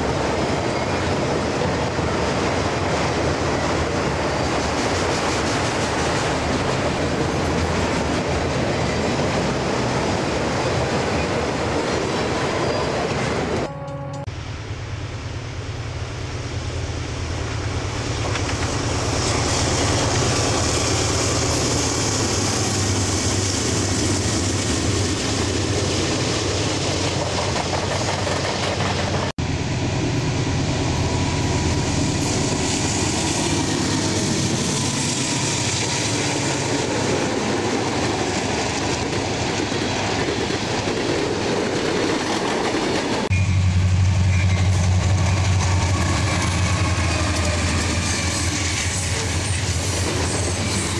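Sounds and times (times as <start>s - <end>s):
train wheels clattering on rails: 0.0s - 14.3s, 17.4s - 29.4s, 30.9s - 50.9s
diesel locomotive engine drone: 0.0s - 50.9s.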